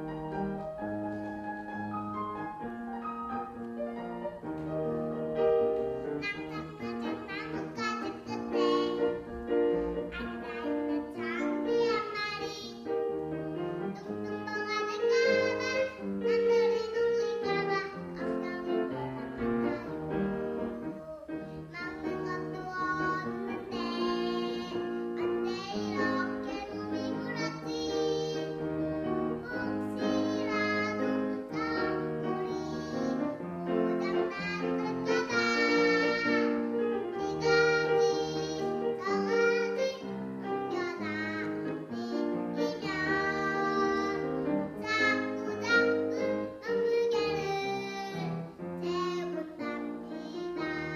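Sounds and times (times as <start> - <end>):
instrumental accompaniment: 0.0 - 50.9
child singing: 6.0 - 13.0, 13.8 - 50.9.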